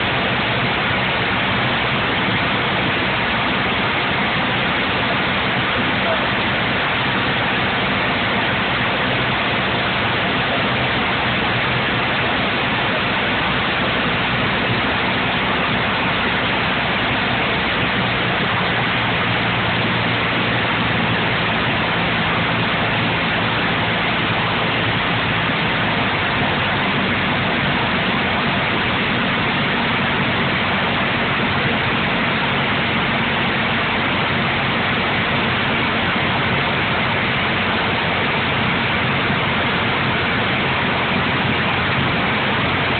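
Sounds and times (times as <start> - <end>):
airliner engine drone: 0.0 - 42.9.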